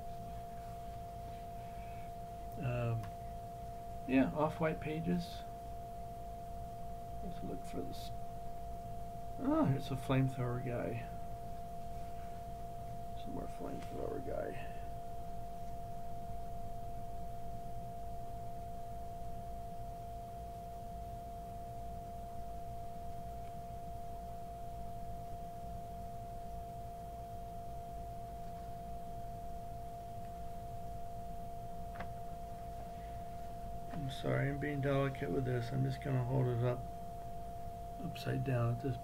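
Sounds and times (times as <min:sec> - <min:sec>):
low hum: 0:00.0 - 0:39.0
steady whine: 0:00.0 - 0:39.0.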